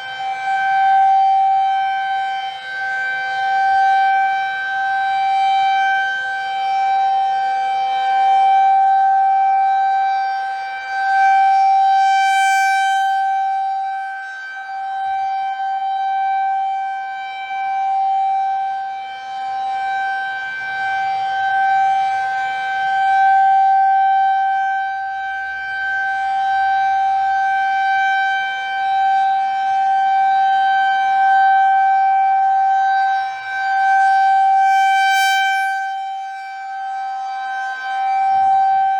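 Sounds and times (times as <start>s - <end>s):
rotating siren steady tone: 0.0s - 38.9s.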